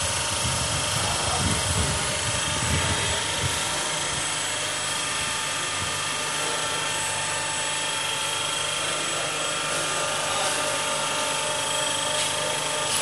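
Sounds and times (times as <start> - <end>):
electric motor whirring and whining: 0.0 - 13.0.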